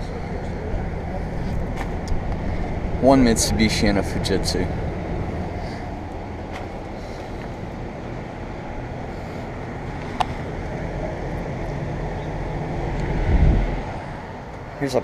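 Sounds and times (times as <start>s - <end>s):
air conditioner units humming: 0.0s - 15.0s.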